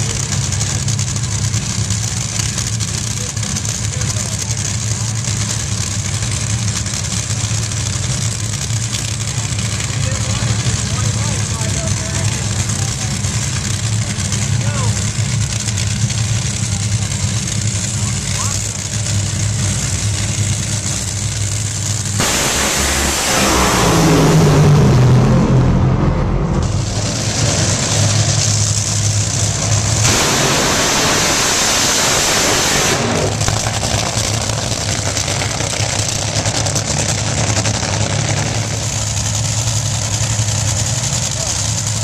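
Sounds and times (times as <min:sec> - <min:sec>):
dragster engines roaring: 0:00.0 - 0:42.0.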